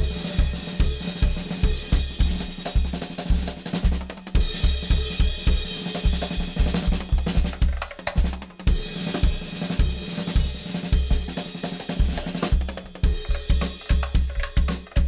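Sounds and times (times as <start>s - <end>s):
fast bass drum kicks: 0.0s - 15.0s
snare and cymbal hits: 0.0s - 15.0s.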